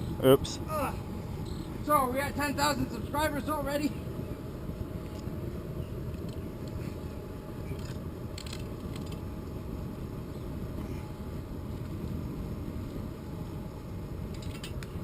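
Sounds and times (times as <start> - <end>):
furnace burning with low rumble: 0.0 - 15.0.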